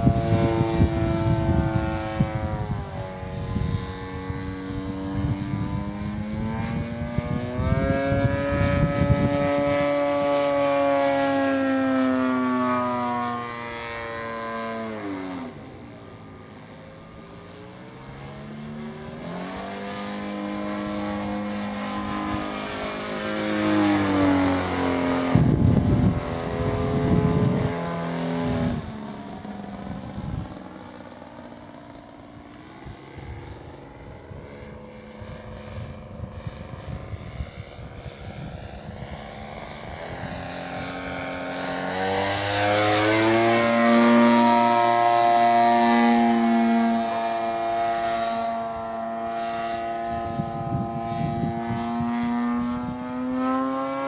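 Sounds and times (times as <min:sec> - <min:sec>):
wind buffeting microphone: 0:00.0 - 0:11.6, 0:18.2 - 0:31.7, 0:32.7 - 0:53.9
model airplane engine buzzing: 0:00.0 - 0:54.0.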